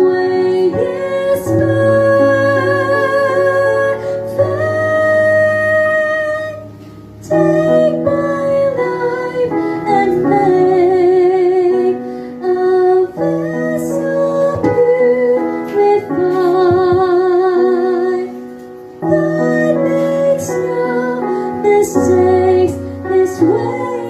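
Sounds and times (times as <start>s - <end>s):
guitar and piano backing: 0.0s - 24.0s
woman singing a hymn: 0.0s - 24.0s.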